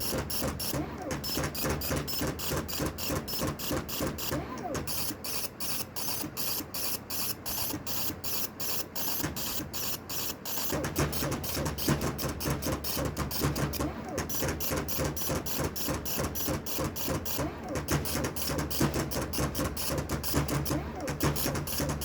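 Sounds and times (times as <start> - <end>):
machine running rhythmically: 0.0 - 22.0.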